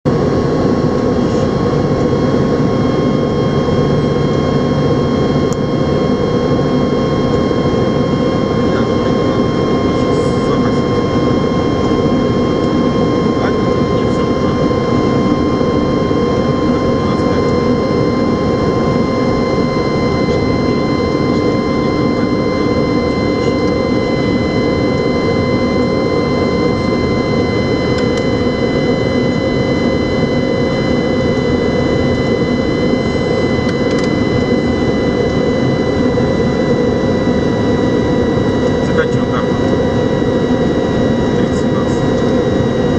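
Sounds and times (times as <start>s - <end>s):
aircraft cockpit airflow and engines: 0.0s - 42.9s.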